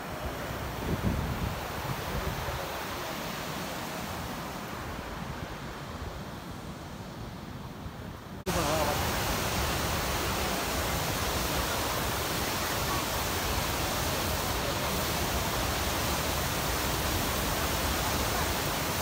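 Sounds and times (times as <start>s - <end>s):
waterfall rushing: 0.0s - 5.8s, 8.5s - 19.0s.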